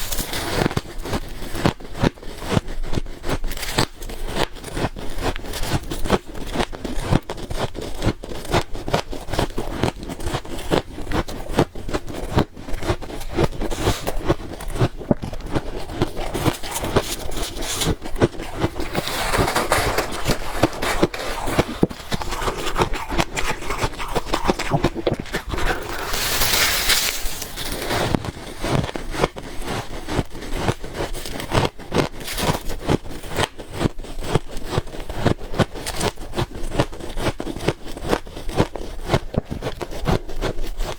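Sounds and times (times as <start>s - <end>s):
ice being chewed crunching: 0.0s - 40.9s.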